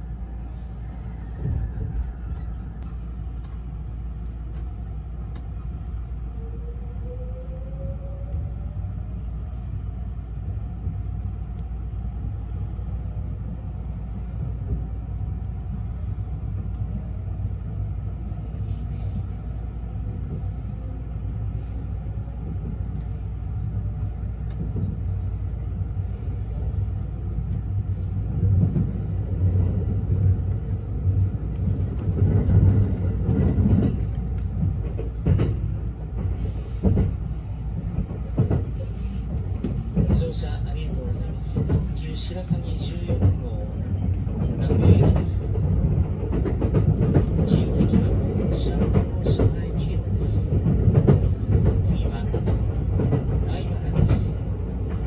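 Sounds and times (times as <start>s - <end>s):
train running rumble: 0.0s - 55.0s.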